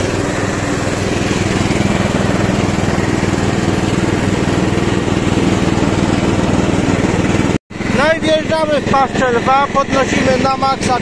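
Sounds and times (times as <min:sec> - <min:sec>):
riding lawn tractor engine running: 0:00.0 - 0:11.0.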